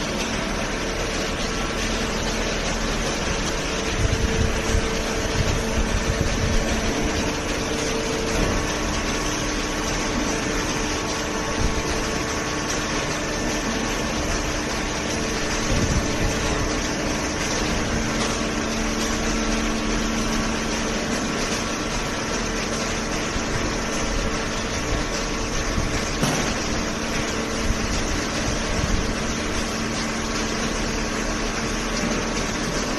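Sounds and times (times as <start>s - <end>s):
baler mechanical hum: 0.0s - 32.9s.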